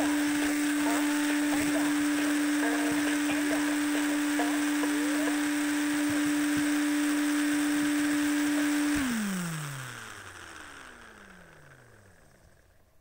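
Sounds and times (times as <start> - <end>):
small electric motor whining: 0.0 - 12.9.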